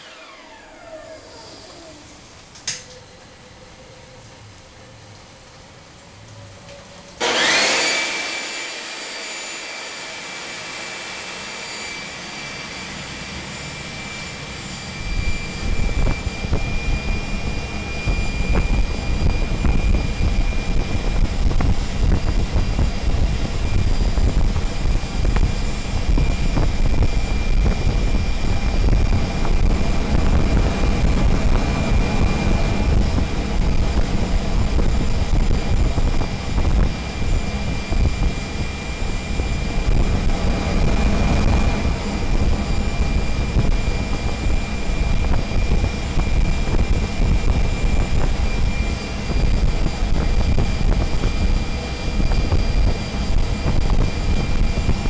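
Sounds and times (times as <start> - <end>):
gas turbine rushing and whining: 0.0 - 55.0
low combustion roar: 0.0 - 55.0.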